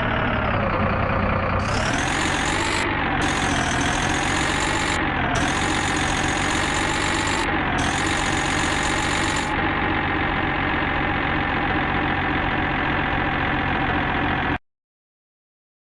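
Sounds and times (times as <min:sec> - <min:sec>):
heavy machine engine idling: 0:00.0 - 0:14.6.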